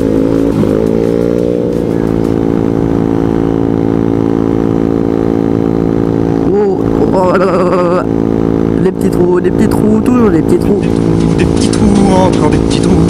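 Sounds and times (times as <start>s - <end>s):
scooter engine accelerating: 0.0s - 13.0s.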